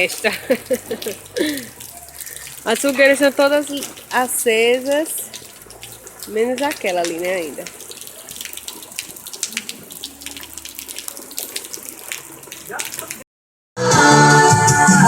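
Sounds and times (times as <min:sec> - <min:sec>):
rain falling and dripping: 0:00.0 - 0:13.3.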